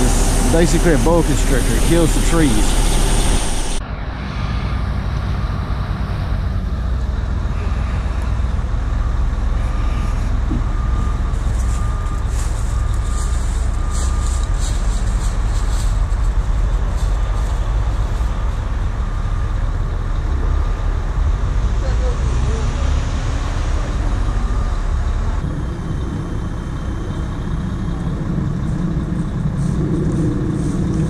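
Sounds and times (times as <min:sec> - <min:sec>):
heavy truck engine running: 0:00.0 - 0:31.0
faint beeping alarm: 0:00.1 - 0:16.2, 0:16.9 - 0:30.0.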